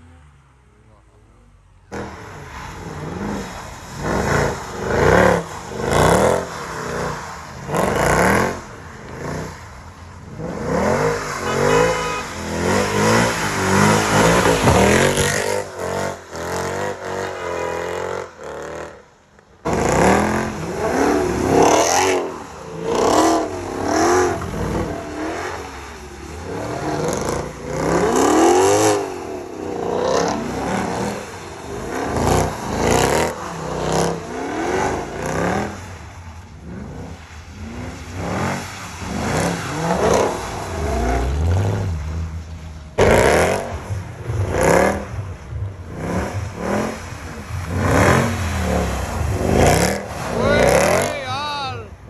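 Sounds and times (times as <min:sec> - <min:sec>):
car engines revving hard: 0:00.0 - 0:52.0.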